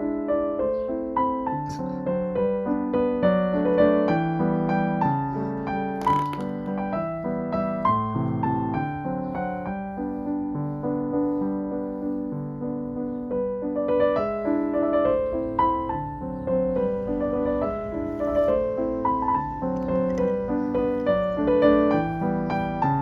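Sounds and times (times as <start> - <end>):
soft piano playing: 0.0 - 23.0.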